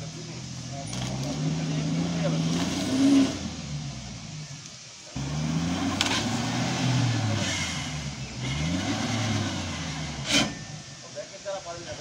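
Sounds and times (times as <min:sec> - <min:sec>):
van engine revving under load: 0:00.0 - 0:11.0.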